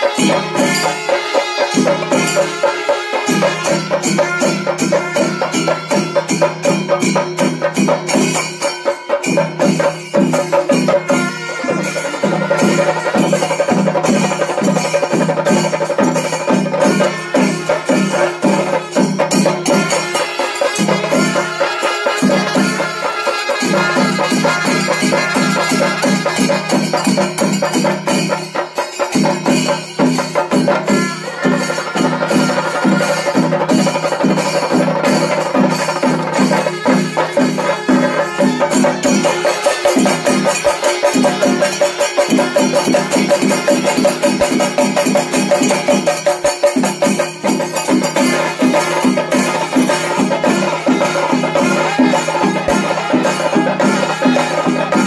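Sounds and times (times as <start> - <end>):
drums beaten with sticks: 0.0 - 55.0.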